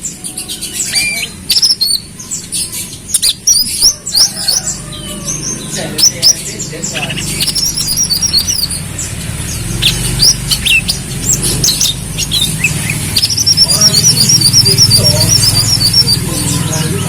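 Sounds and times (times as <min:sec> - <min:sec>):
bird twittering: 0:00.0 - 0:17.0.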